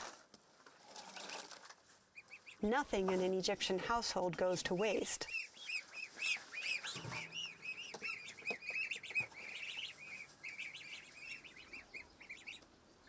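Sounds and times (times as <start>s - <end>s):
goslings peeping: 2.1s - 13.0s.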